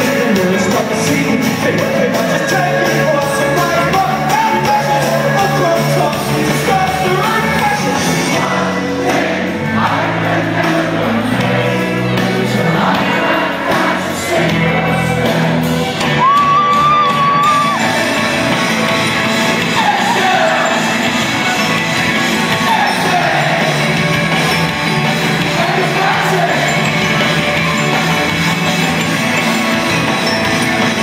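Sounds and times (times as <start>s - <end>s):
lead vocal singing: 0.0s - 31.0s
live band playing: 0.0s - 31.0s.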